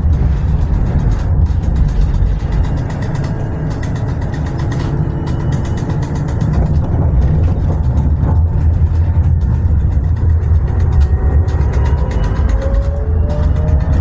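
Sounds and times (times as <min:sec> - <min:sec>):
tram rumble: 0:00.0 - 0:14.0.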